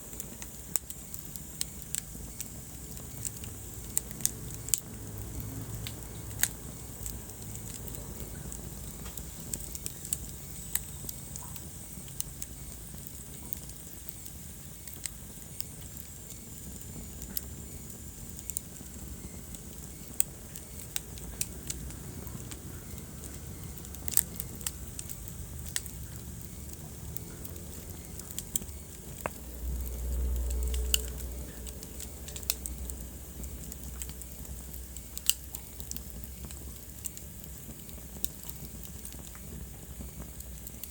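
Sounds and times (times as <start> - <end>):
wood fire crackling: 0.0 - 40.9
sharp pops and snaps: 0.1 - 40.9.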